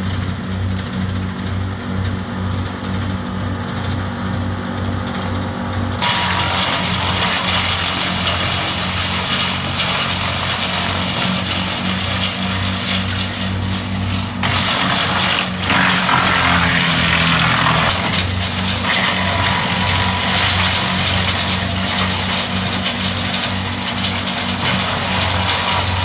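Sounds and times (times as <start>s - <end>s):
wood chipper shredding branches: 0.0s - 26.0s.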